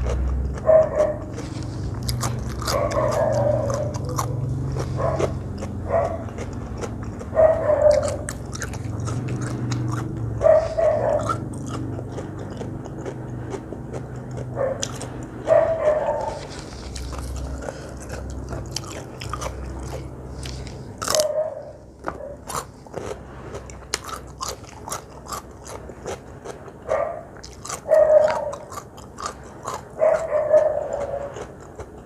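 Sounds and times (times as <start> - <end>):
chewing crunchy food: 0.0 - 32.0.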